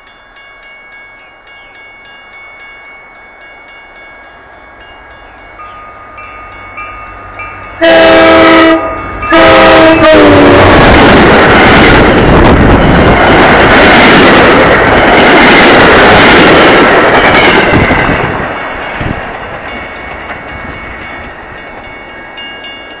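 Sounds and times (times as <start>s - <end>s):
train passing with rushing rumble: 0.0s - 23.0s.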